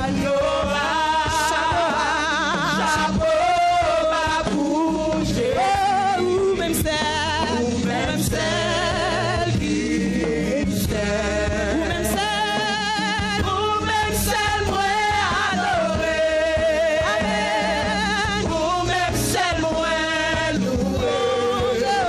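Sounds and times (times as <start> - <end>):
backing singers: 0.0 - 22.0
instrumental accompaniment with bass: 0.0 - 22.0
woman singing with vibrato: 0.0 - 22.0.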